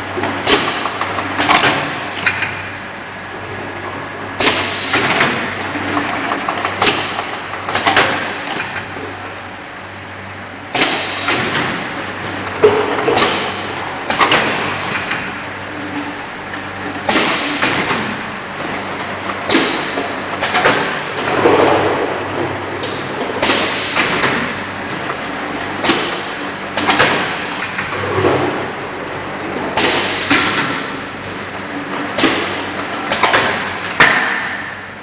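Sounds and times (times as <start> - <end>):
bottle filling machine running: 0.0 - 35.0.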